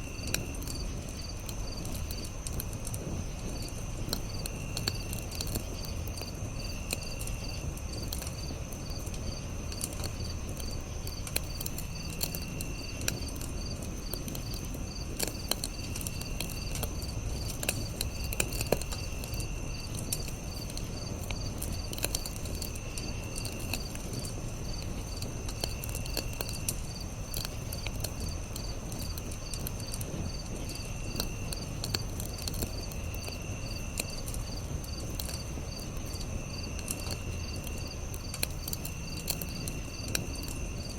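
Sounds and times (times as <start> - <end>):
campfire crackling and popping: 0.0 - 40.9
insect high steady trill: 3.2 - 40.9.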